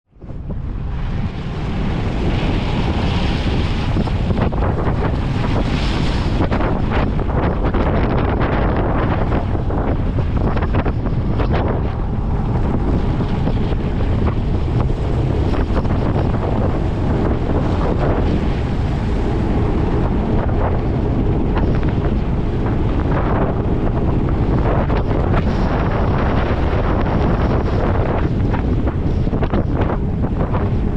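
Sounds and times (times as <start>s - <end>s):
wind buffeting microphone: 0.1s - 30.9s.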